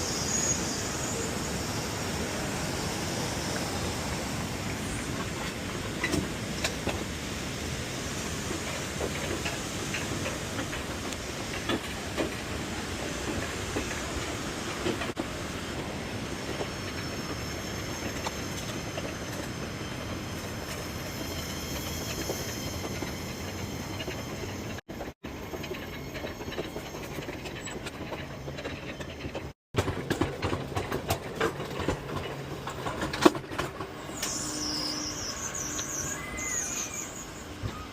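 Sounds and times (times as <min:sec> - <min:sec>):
coaster cart rumbling on rail: 0:00.0 - 0:37.9.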